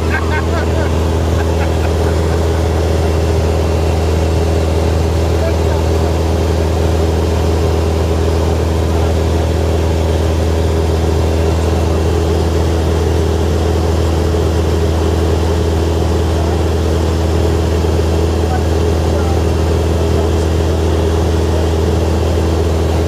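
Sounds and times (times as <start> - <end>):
propeller plane engine droning: 0.0 - 23.0.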